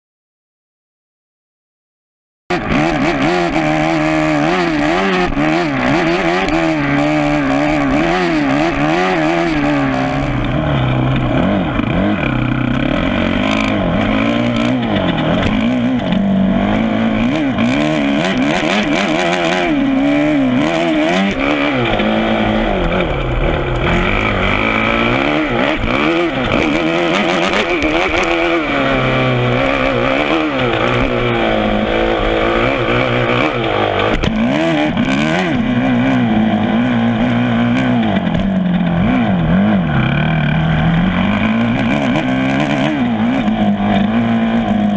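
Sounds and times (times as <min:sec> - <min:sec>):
motocross bike engine revving: 0:02.5 - 0:44.9.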